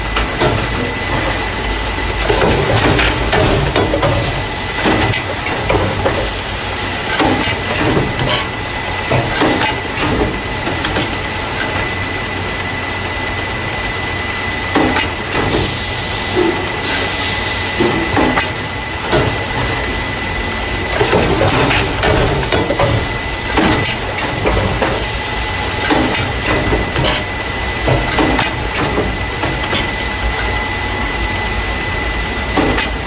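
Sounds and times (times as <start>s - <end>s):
machine hum: 0.0s - 33.0s.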